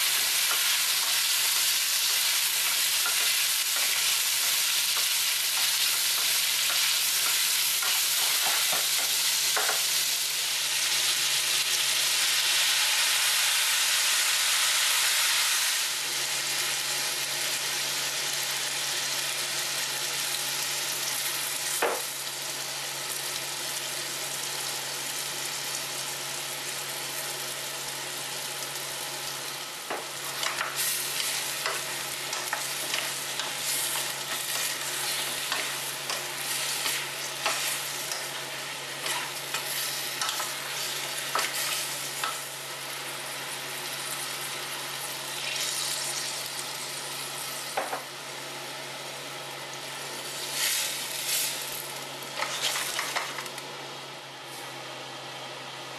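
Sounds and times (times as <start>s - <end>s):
food sizzling and crackling in pan: 0.0s - 54.8s.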